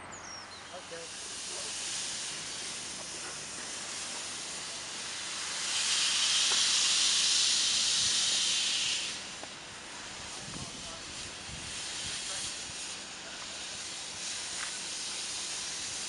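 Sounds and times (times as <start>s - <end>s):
steam locomotive venting steam: 0.5s - 16.0s.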